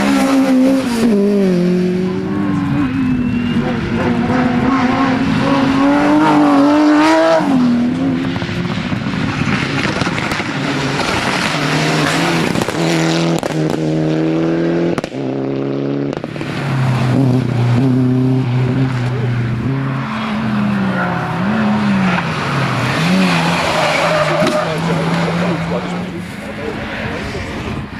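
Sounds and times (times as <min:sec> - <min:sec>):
rally car engine at high revs: 0:00.0 - 0:27.4.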